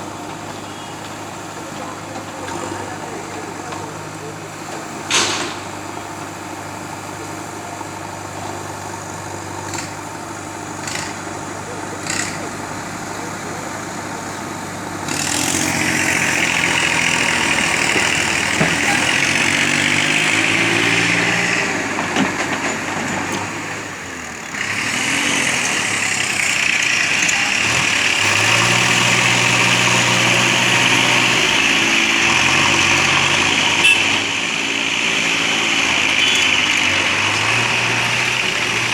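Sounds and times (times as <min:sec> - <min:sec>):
heavy diesel engine under load: 0:00.0 - 0:38.9.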